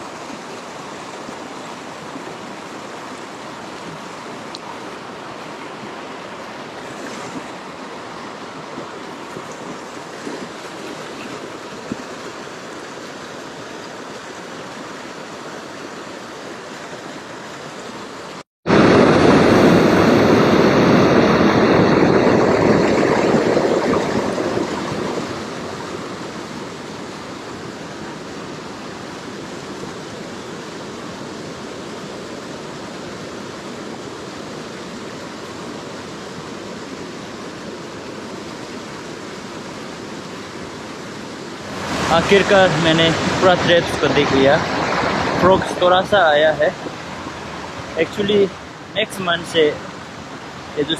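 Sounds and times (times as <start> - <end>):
water rushing in stream: 0.0 - 50.9.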